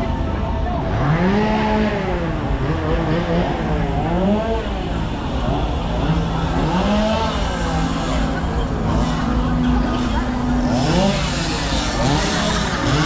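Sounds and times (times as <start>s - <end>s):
chainsaw engines idling and revving: 0.0s - 13.0s.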